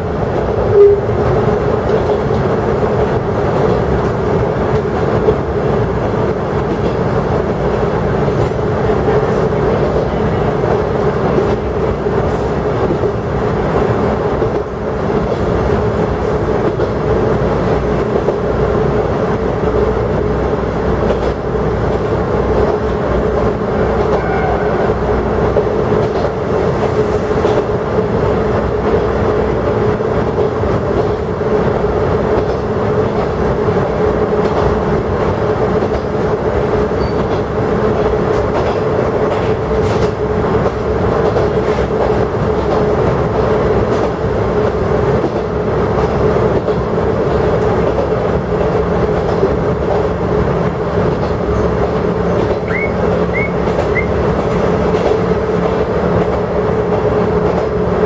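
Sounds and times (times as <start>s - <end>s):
train engine and running gear drone: 0.0s - 58.0s
wheels clicking on rails: 0.2s - 58.0s.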